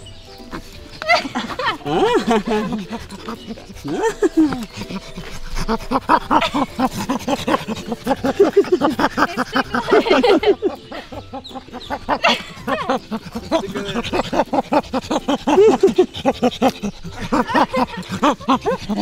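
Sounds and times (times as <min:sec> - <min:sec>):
chimpanzee play-panting laughter: 0:00.0 - 0:19.0.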